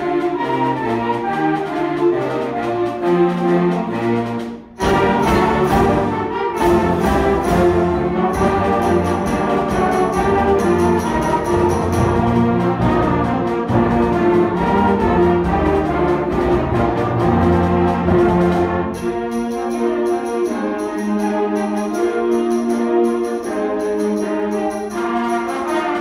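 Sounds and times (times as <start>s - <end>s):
concert band playing: 0.0s - 26.0s.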